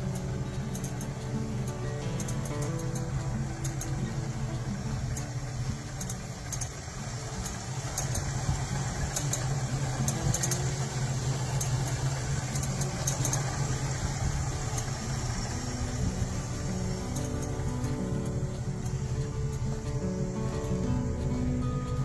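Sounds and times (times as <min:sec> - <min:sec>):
car engine idling: 0:00.0 - 0:22.0
light clicks: 0:00.0 - 0:22.0.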